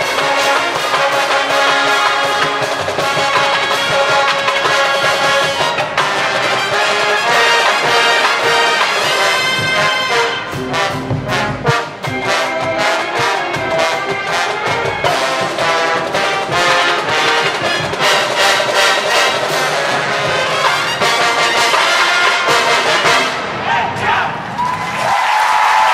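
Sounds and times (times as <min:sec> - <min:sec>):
drumline drum strikes: 0:00.0 - 0:24.2
marching band brass section: 0:00.0 - 0:25.9.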